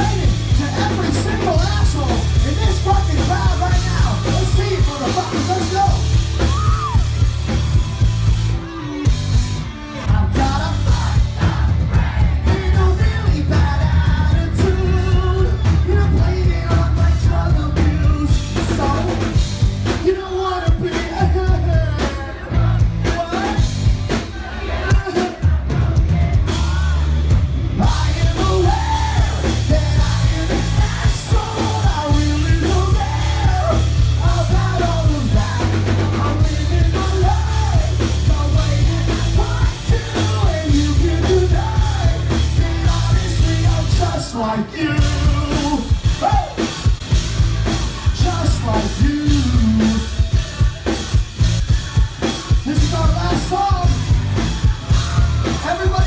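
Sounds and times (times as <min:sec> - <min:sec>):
man singing lead vocals: 0:00.0 - 0:07.3, 0:07.9 - 0:46.9, 0:47.9 - 0:56.0
drum kit: 0:00.0 - 0:56.0
heavy bass line: 0:00.0 - 0:56.0
rock band playing: 0:00.0 - 0:56.0.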